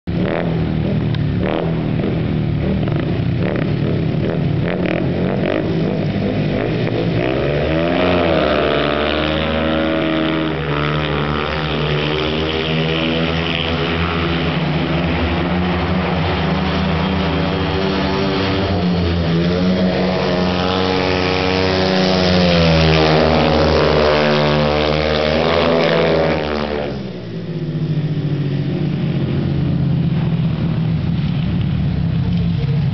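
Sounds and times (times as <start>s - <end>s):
engine revving: 0.0s - 32.9s.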